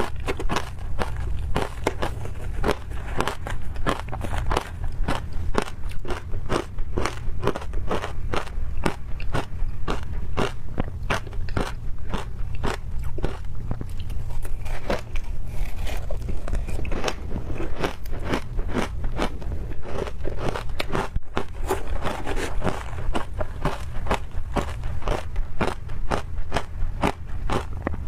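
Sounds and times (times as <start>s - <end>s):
ice crunching while chewed: 0.0s - 28.0s
steady low hum: 0.0s - 28.0s.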